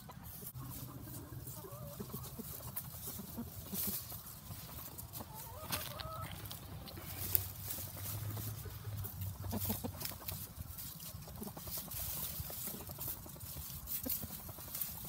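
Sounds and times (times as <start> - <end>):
rooster scratching in dry straw: 0.0 - 15.0.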